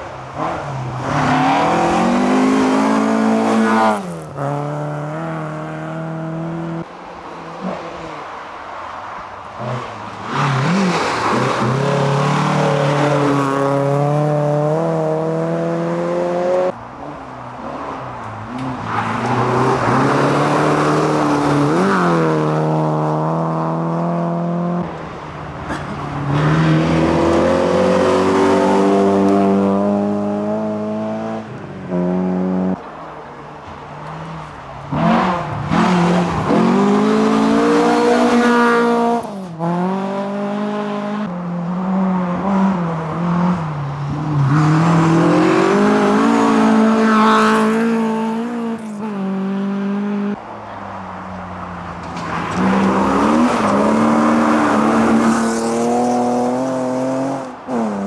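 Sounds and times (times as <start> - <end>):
rally car engines revving: 0.0 - 32.9, 34.0 - 50.4, 51.8 - 58.0.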